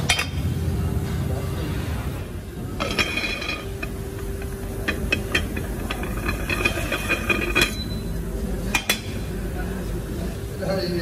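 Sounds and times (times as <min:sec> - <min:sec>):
low workshop hum: 0:00.0 - 0:11.0.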